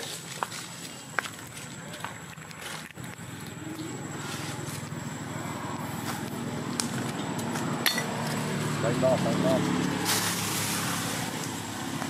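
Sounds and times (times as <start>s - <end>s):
low engine hum: 0.3s - 12.0s.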